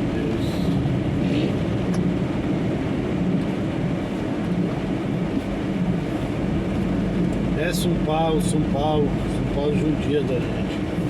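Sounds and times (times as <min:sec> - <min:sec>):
vehicle engine rumble from inside cab: 0:00.0 - 0:11.0.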